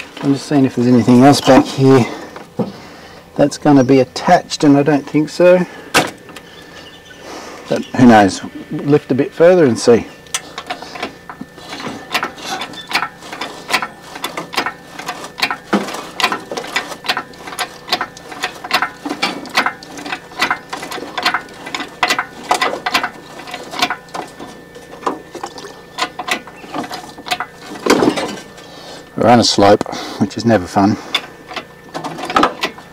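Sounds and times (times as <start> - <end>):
hydraulic crane clicking and clanking: 3.4 - 32.9.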